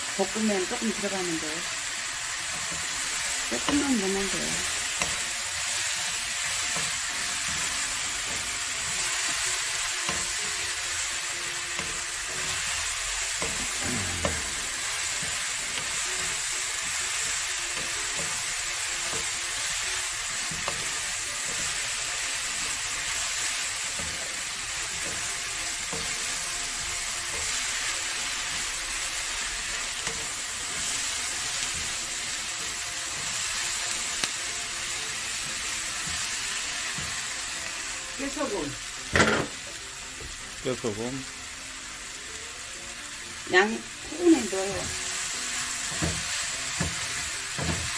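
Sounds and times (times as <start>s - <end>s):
vegetables sizzling in frying pan: 0.0s - 47.9s.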